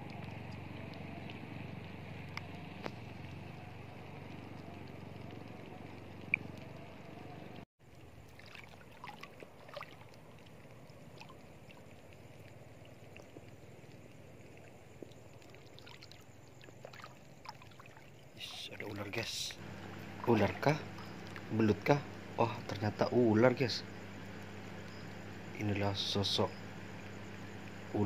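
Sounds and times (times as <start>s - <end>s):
shallow water splashing from wading: 0.0s - 22.9s.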